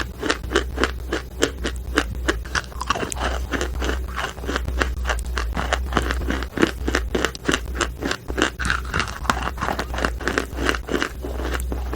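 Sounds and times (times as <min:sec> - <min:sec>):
person chewing chalk: 0:00.0 - 0:11.9.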